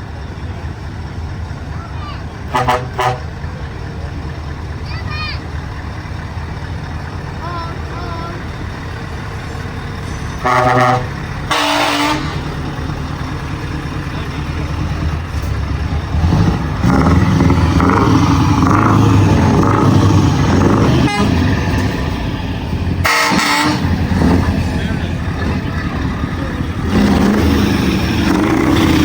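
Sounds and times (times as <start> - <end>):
truck engines rumbling: 0.0 - 29.0
truck horns blasting: 1.7 - 29.0.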